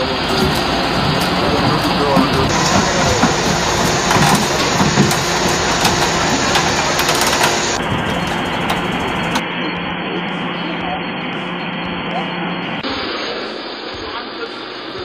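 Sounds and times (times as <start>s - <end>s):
diesel engine humming: 0.0s - 15.0s
rough machine noise: 0.0s - 15.0s.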